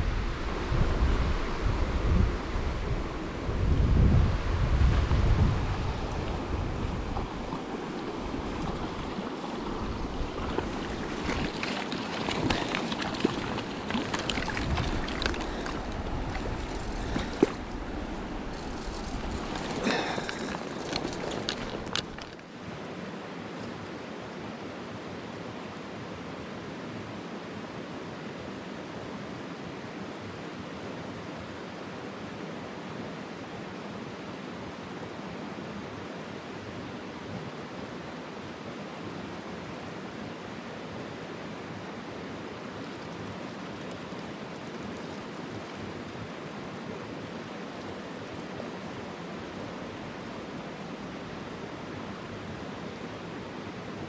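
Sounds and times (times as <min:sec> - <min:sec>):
stream water rushing: 0:05.1 - 0:54.0.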